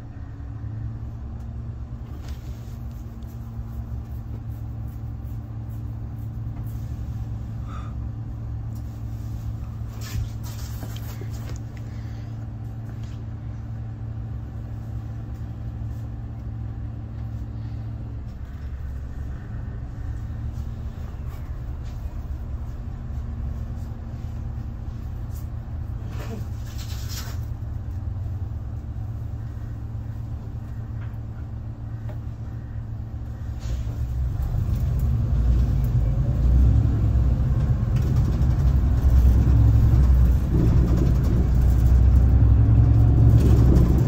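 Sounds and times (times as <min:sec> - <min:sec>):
bus engine idling: 0:00.0 - 0:44.0.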